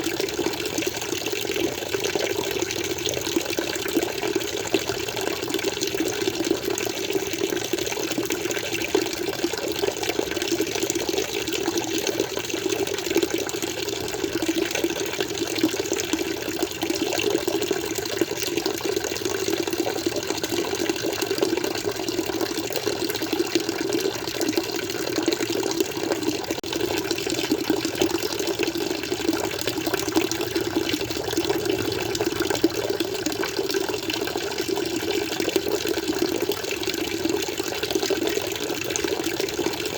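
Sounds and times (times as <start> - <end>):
aquarium water flowing: 0.0 - 39.9.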